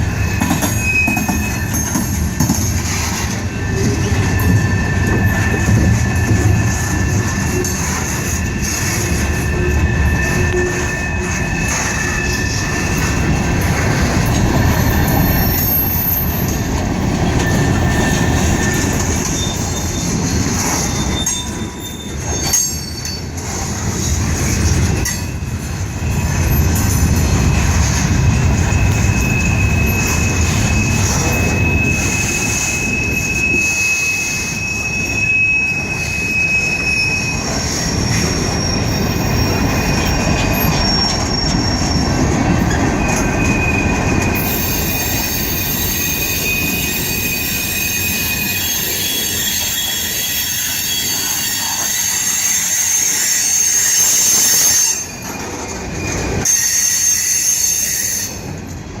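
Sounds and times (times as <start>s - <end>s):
wheel squeal: 0.0s - 23.4s, 24.0s - 58.6s
train wheels rumbling on rail: 0.0s - 59.0s.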